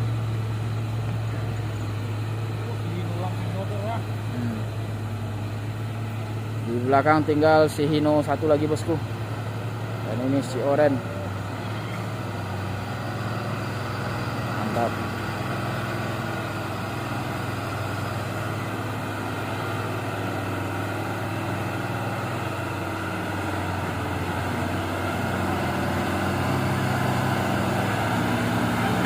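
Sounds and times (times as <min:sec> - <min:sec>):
truck diesel engine running: 0:00.0 - 0:29.0.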